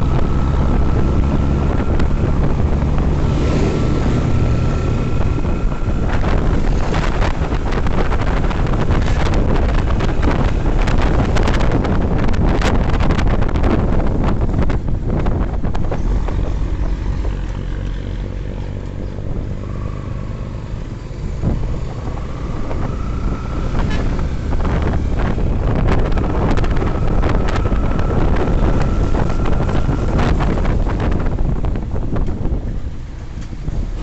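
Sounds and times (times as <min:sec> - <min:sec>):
motorcycle engine rumble: 0:00.0 - 0:34.0
wind buffeting microphone: 0:00.0 - 0:34.0.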